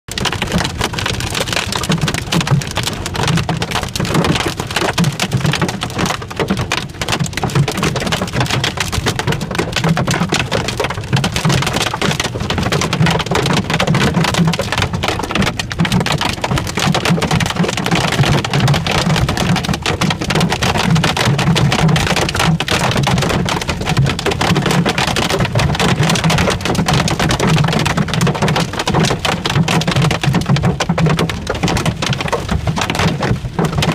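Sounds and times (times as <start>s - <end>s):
hail drumming on car roof: 0.1s - 33.9s.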